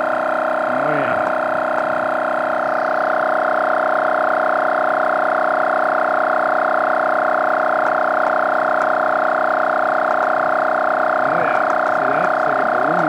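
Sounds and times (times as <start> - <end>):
air compressor motor whine: 0.0 - 13.0.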